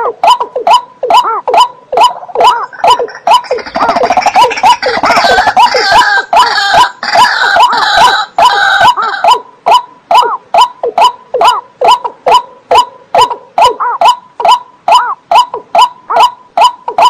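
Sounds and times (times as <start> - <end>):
chorus of harsh bird calls: 0.0 - 17.0
repeated rising and falling bird call: 0.0 - 17.0.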